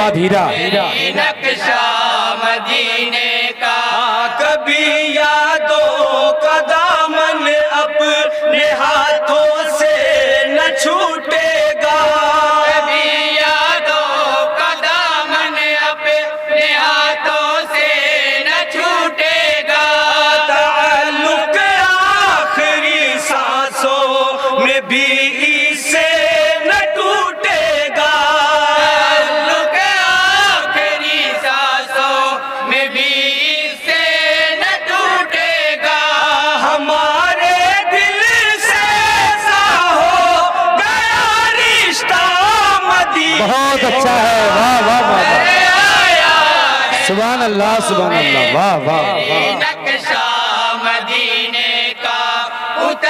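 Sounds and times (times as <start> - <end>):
men singing in chorus: 0.3 - 53.0.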